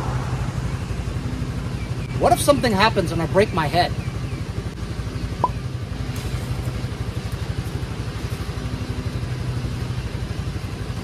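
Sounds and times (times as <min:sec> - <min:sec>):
scooter engine idling: 0:00.2 - 0:11.0.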